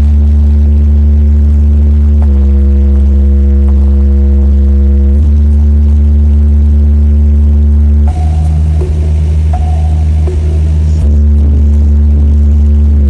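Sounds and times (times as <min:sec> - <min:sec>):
loud deep bass note: 0:00.0 - 0:13.0.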